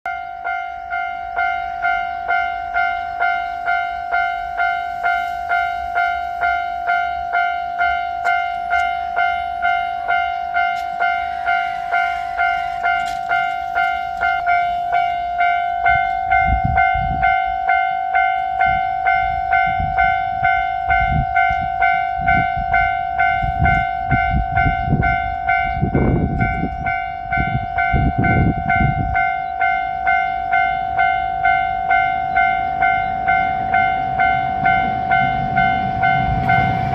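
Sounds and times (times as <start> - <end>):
diesel train rumbling past: 0.1 - 36.9
level crossing warning bell ringing: 0.1 - 36.9.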